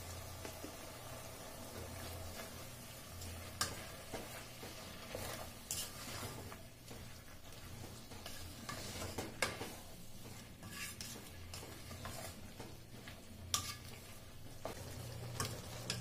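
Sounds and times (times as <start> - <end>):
meat sizzling: 0.0 - 16.0
wooden spoon stirring in a pot: 0.0 - 16.0.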